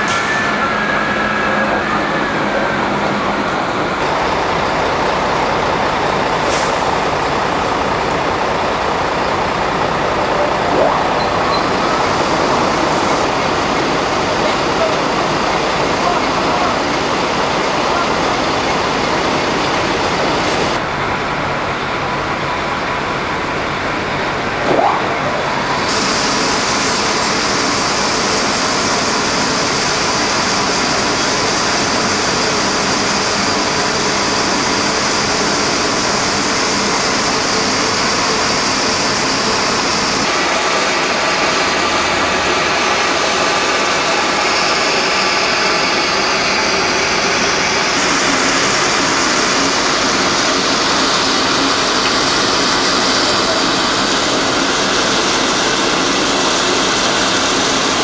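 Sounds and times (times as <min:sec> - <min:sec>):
machinery noise with faint whine: 0:00.0 - 0:58.0.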